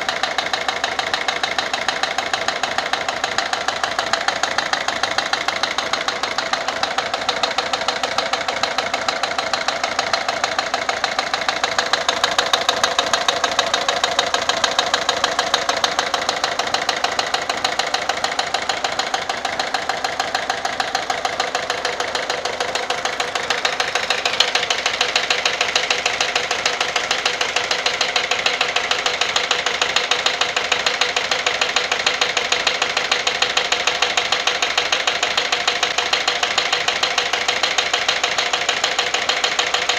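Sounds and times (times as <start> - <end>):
diesel engine idling with knocking: 0.0 - 39.9.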